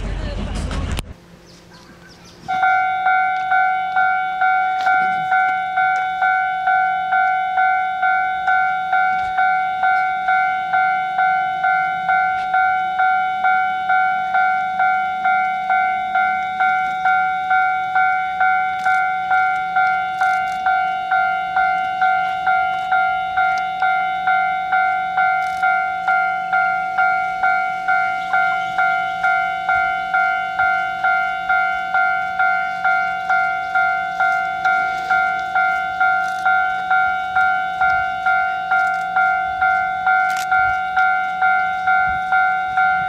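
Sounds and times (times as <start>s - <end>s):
level crossing warning bell ringing: 2.5s - 43.0s.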